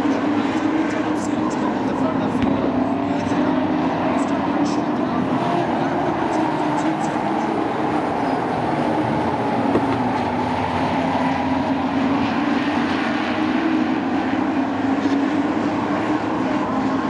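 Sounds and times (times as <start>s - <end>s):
racing truck engines droning: 0.0s - 17.0s.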